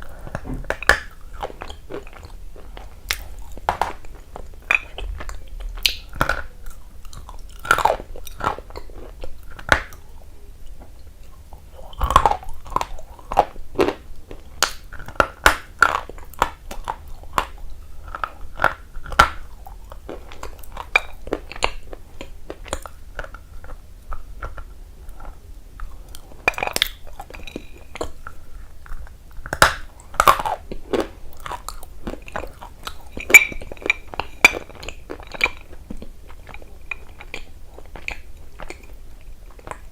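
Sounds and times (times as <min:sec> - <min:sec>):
person chewing crunchy food: 0:00.0 - 0:10.0, 0:11.3 - 0:39.9.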